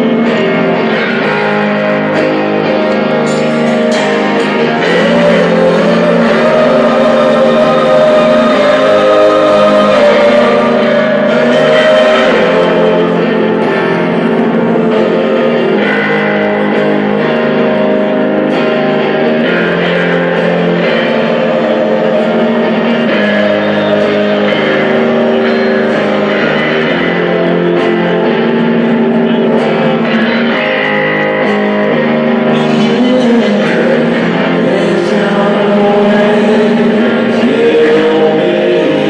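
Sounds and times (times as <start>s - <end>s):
electric guitar: 0.0s - 39.0s
live rock band playing: 0.0s - 39.0s.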